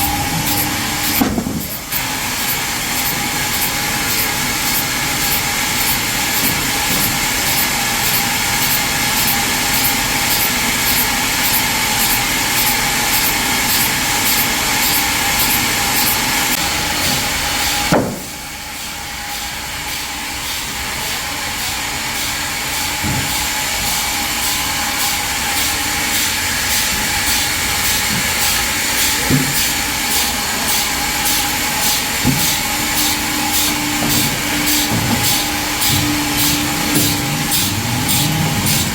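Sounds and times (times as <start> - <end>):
sawmill machinery ticking: 0.0 - 17.8, 22.7 - 38.9.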